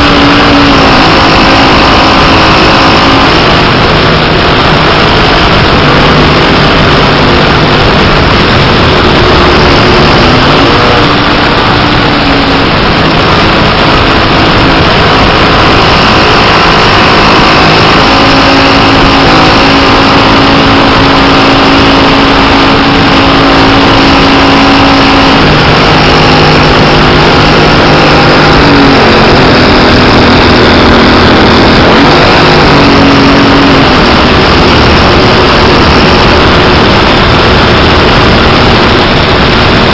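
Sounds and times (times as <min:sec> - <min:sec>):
model aircraft engine running: 0:00.0 - 0:39.9
wind rush on microphone: 0:00.0 - 0:39.9.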